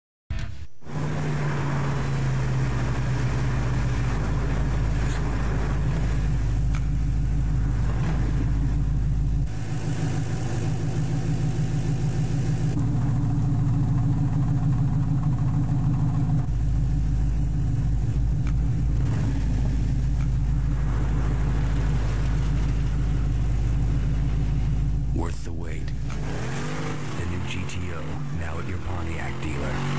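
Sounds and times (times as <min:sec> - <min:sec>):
car engine idling: 0:01.9 - 0:29.9.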